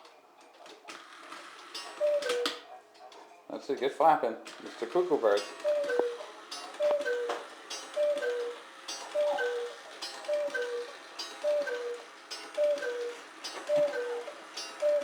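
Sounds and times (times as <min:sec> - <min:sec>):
cuckoo clock calling: 0:00.8 - 0:02.8, 0:04.7 - 0:15.0.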